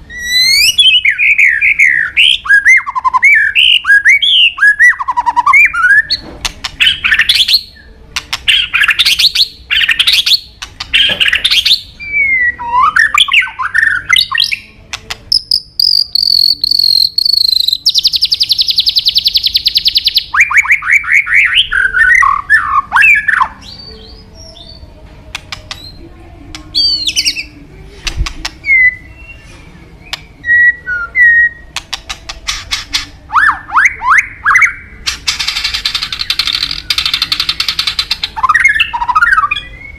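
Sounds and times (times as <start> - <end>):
bird singing whistles and trills: 0.1 - 6.2, 6.8 - 14.7, 15.3 - 24.9, 26.8 - 27.6, 28.6 - 39.9.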